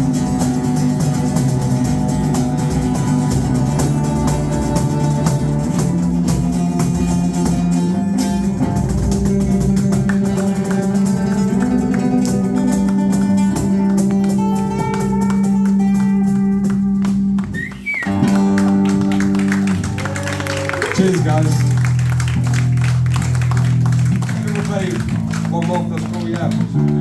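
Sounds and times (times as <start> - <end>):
guitar: 0.0 - 27.0
live band playing: 0.0 - 27.0.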